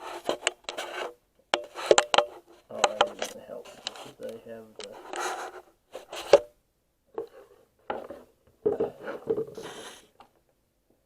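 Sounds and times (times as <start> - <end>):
objects rubbing and clattering: 0.0 - 6.5, 7.2 - 10.2.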